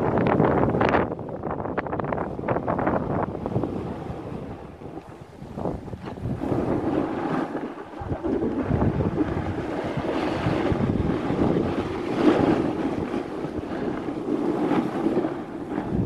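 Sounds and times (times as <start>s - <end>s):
snowboard sliding over snow: 0.0s - 16.0s
wind buffeting microphone: 0.0s - 16.0s.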